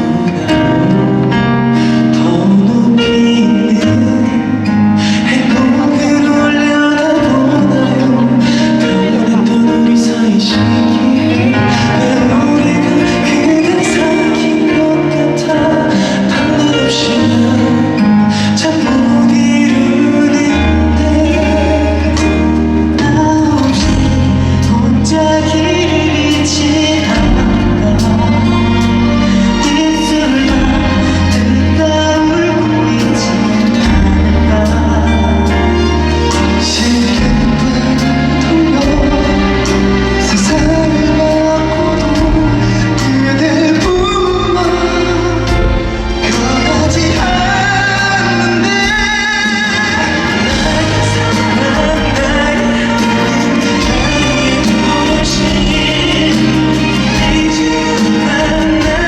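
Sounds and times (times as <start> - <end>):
live pop band with singer: 0.0 - 59.0
sustained bass notes: 0.0 - 59.0.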